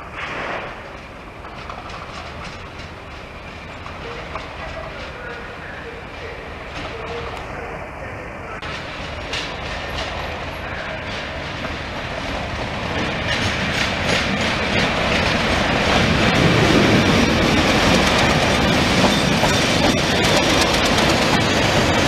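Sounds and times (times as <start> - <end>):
diesel locomotive engine: 0.0 - 22.0
wheels clicking over rail joints: 0.8 - 5.6, 8.6 - 22.0.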